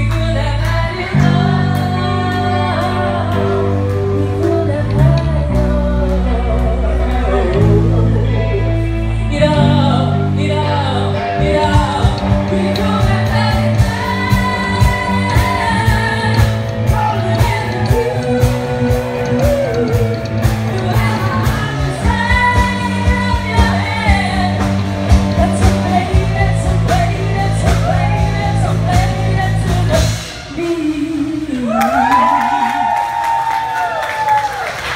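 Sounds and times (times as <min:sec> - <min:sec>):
woman singing: 0:00.0 - 0:34.0
bass guitar: 0:00.0 - 0:34.9
drums: 0:00.0 - 0:34.9
electric guitar: 0:00.0 - 0:34.9.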